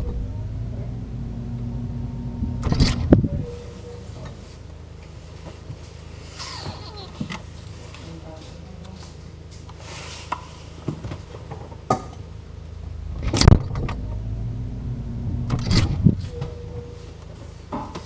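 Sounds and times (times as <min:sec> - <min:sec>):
refrigerator humming: 0:00.0 - 0:09.6, 0:10.7 - 0:18.0.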